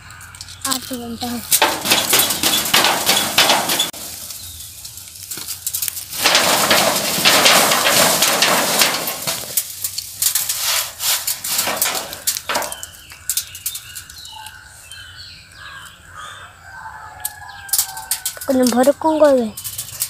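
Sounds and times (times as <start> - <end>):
hand scraping seeds on metal roofing: 0.1 - 14.8, 17.2 - 20.0.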